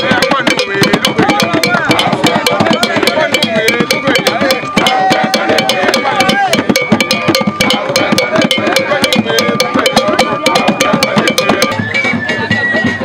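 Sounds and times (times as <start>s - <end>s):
dance music with percussion: 0.0s - 13.0s.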